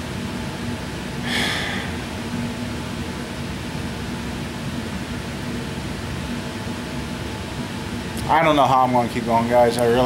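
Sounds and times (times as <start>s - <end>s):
mechanical hum and hiss: 0.0s - 10.0s.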